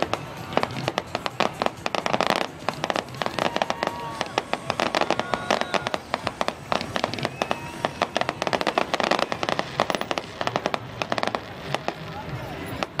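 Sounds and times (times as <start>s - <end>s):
fireworks bangs and crackles: 0.0s - 13.0s
fireworks whistles: 0.0s - 13.0s.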